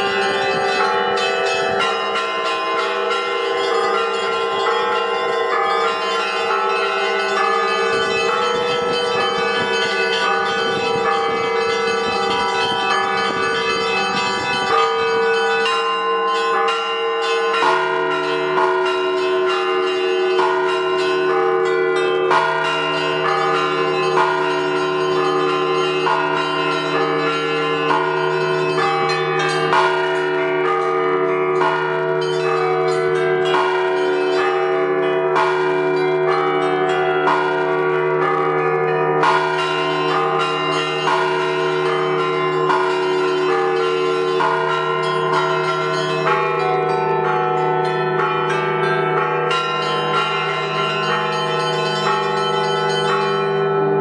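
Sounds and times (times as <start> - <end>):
deep bell: 0.0 - 54.0
large bells ringing hum: 0.0 - 54.0
small church bells struck: 0.0 - 54.0.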